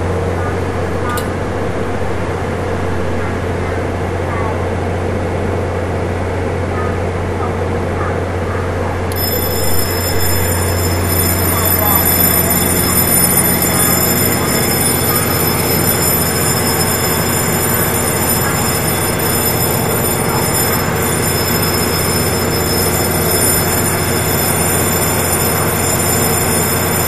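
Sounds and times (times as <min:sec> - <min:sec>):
train equipment humming: 0:00.0 - 0:04.2, 0:08.8 - 0:27.0.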